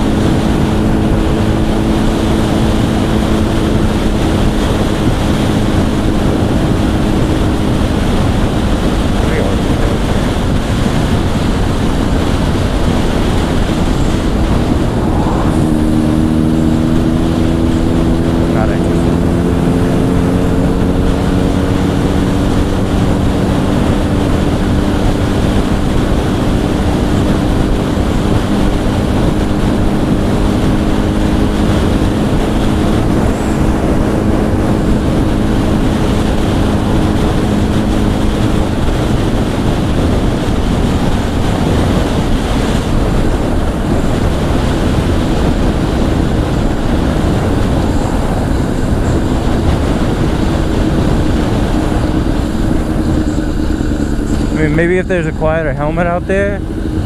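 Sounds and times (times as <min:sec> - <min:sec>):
motorcycle engine cruising: 0:00.0 - 0:57.0
wind rush on microphone: 0:00.0 - 0:57.0.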